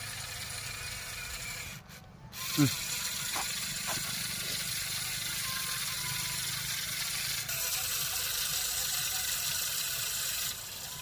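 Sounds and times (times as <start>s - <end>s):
tractor diesel engine running: 2.0s - 11.0s.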